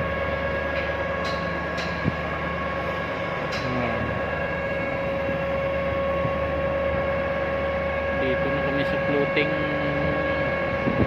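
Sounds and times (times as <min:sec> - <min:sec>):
heavy machinery droning: 0:00.0 - 0:11.0.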